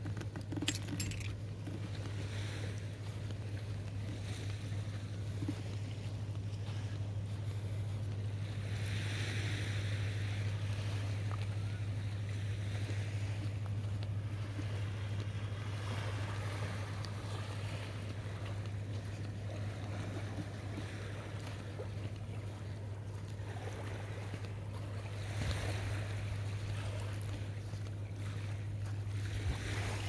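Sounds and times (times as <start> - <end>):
small waves lapping on sand: 0.0 - 30.0
steady low hum: 0.0 - 30.0.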